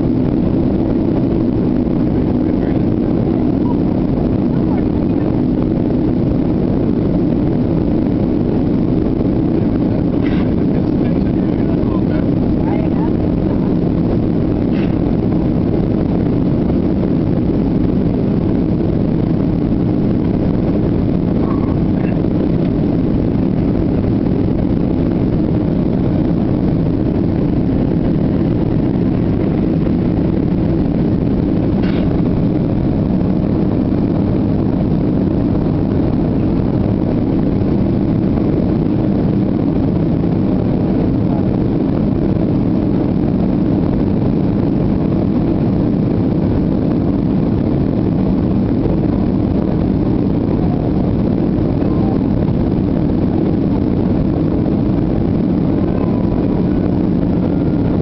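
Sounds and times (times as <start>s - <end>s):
airliner engine drone: 0.0s - 58.0s.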